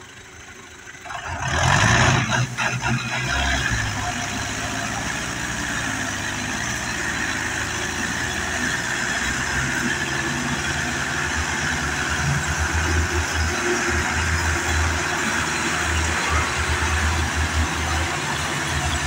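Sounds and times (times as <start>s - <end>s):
tractor engines under load: 0.0s - 19.0s.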